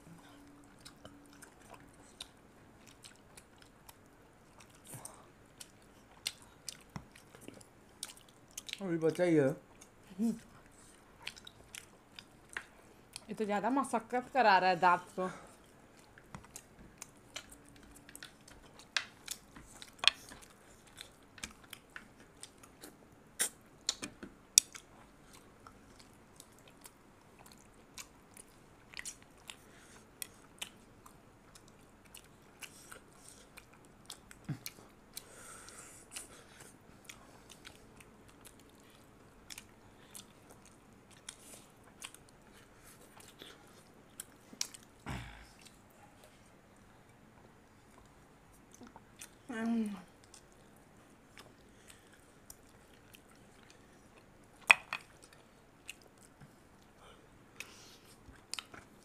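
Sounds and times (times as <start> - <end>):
chewing and biting food: 0.3 - 8.8, 9.6 - 13.3, 15.5 - 49.4, 50.2 - 59.0.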